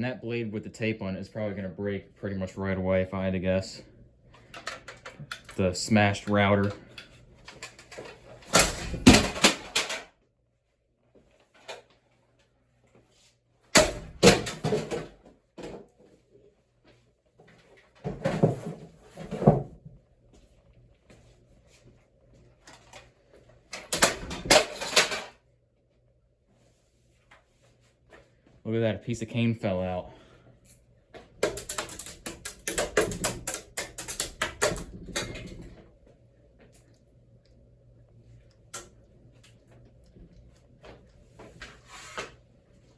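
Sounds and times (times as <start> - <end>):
ceiling fan blades clattering: 0.0 - 10.2, 11.2 - 25.5, 26.4 - 42.9.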